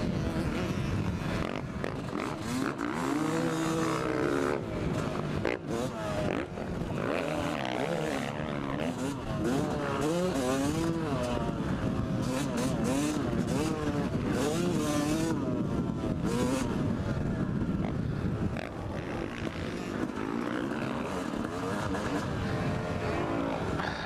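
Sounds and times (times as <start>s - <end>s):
two-stroke motocross engine: 0.0s - 24.0s
wind rushing over microphone: 0.0s - 24.0s.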